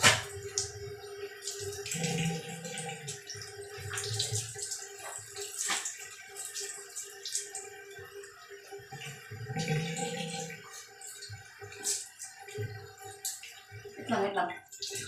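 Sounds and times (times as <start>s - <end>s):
shower water splashing: 0.0s - 15.0s.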